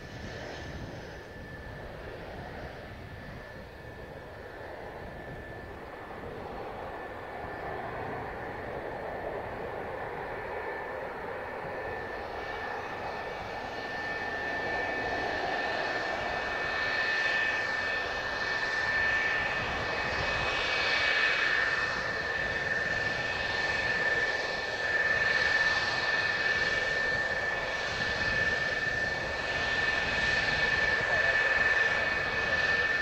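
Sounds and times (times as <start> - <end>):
jet engines whining: 0.0 - 33.0.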